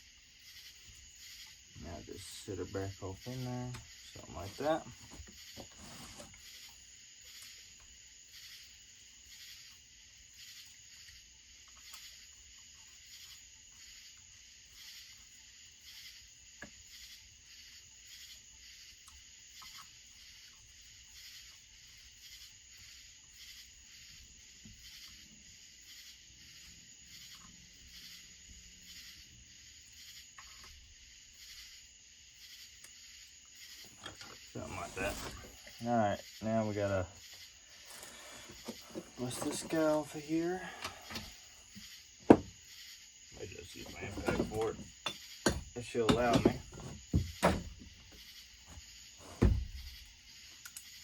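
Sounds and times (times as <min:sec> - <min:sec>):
night insects chirping: 0:00.0 - 0:51.0.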